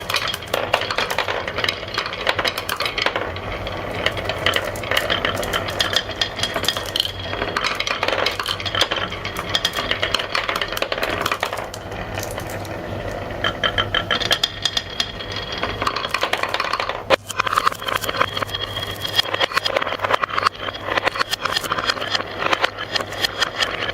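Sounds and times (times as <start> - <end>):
marbles rolling and clacking: 0.0 - 23.9.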